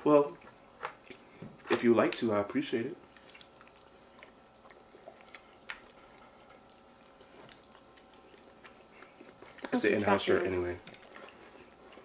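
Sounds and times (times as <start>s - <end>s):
quiet chewing: 0.2s - 2.3s, 3.0s - 12.0s.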